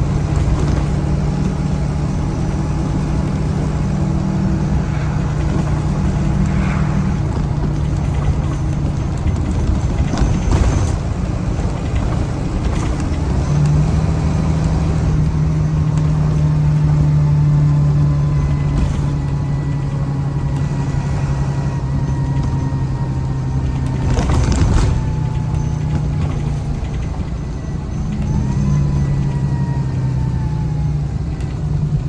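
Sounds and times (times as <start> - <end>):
bus engine droning: 0.0 - 32.0.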